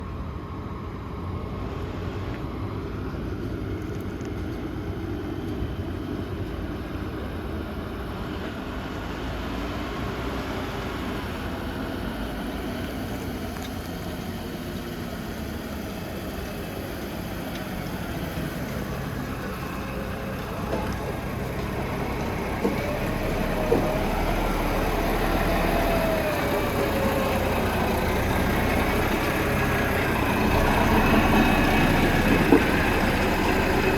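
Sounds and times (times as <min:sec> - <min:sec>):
diesel truck engine running: 0:01.2 - 0:33.9.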